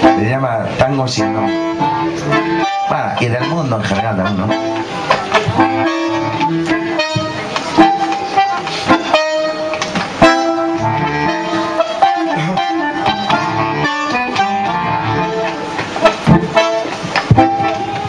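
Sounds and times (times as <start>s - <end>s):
bandoneon: 0.0s - 18.0s
harmonica: 0.0s - 18.0s.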